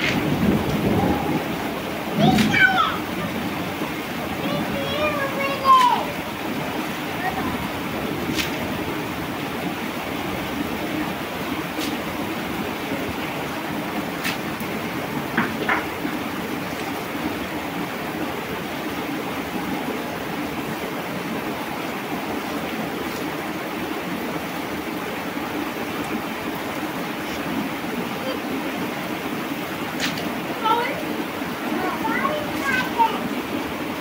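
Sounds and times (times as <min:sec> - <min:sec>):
water rushing: 0:00.0 - 0:34.0.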